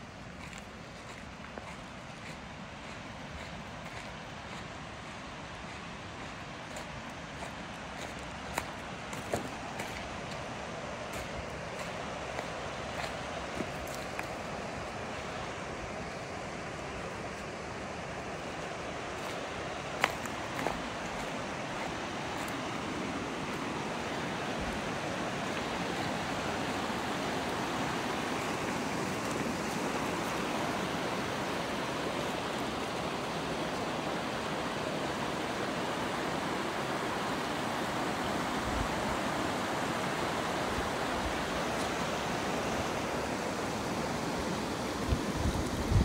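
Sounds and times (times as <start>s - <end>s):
creek running over rocks: 0.0s - 46.0s.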